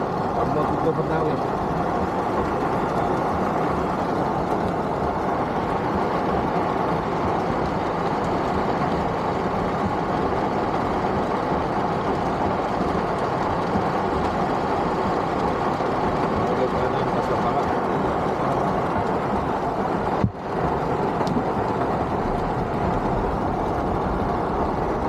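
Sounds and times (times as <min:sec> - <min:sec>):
heavy rain on car roof: 0:00.0 - 0:25.0.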